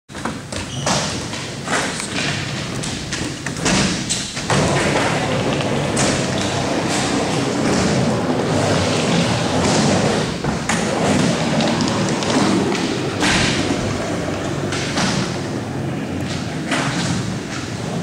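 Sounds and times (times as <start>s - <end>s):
skateboard wheels rolling: 0.1s - 18.0s
skateboard hitting ramp: 1.0s - 18.0s.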